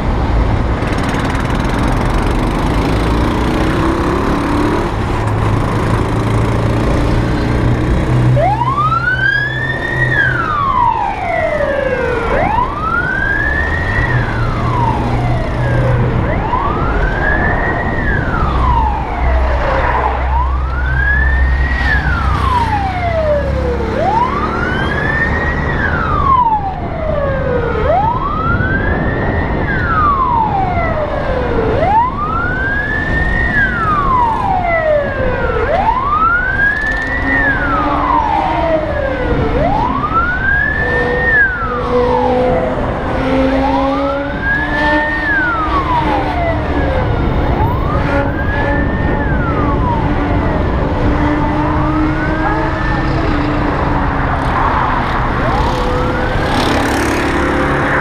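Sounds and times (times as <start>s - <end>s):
emergency vehicle wail siren: 0.0s - 58.0s
traffic and road noise: 0.0s - 58.0s.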